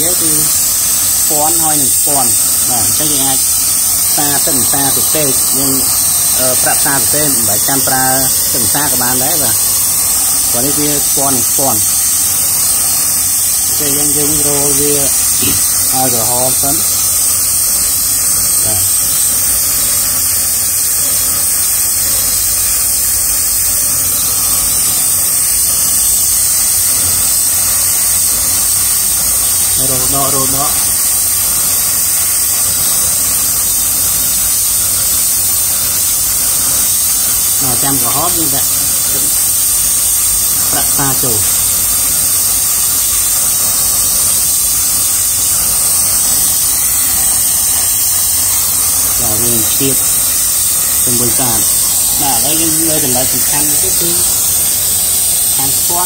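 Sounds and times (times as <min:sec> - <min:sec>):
brazing torch hissing: 0:00.0 - 0:56.0.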